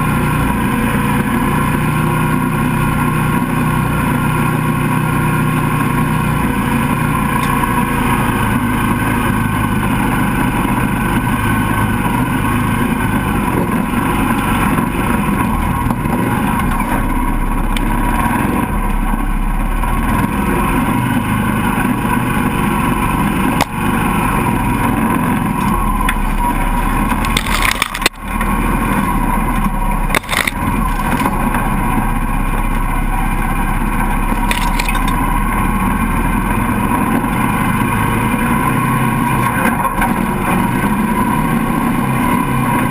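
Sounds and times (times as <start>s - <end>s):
buggy engine running: 0.0s - 42.9s.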